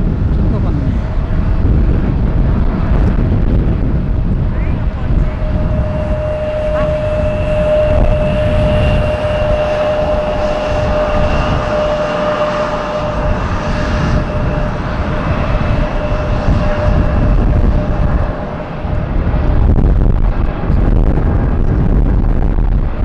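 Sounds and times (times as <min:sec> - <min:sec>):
jet engines whining: 0:00.0 - 0:23.0
low rumble: 0:00.0 - 0:23.0.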